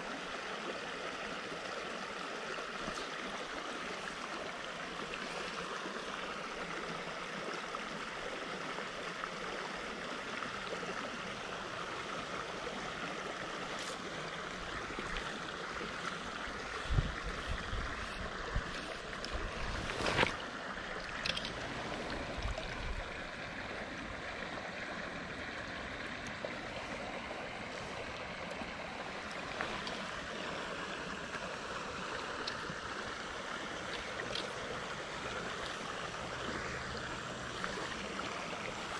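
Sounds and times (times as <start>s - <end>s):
stream running over gravel: 0.0s - 38.9s.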